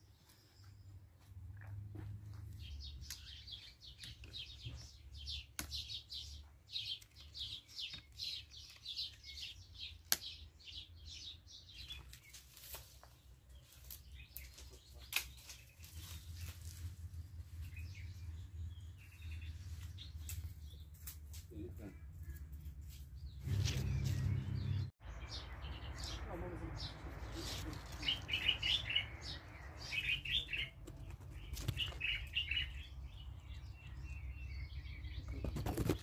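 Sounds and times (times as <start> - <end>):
bird chirping: 2.5 - 36.0.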